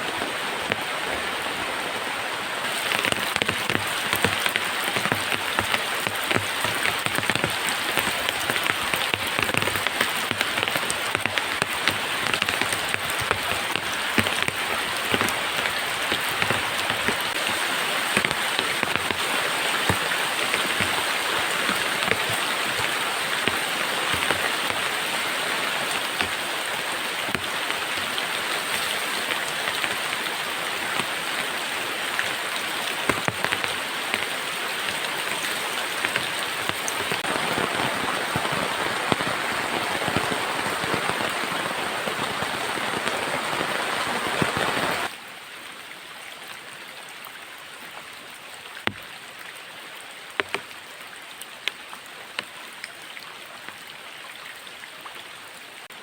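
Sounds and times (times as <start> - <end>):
heavy rain falling: 0.0 - 45.2, 50.3 - 50.9
raindrops striking a surface: 0.0 - 45.2, 47.9 - 54.0.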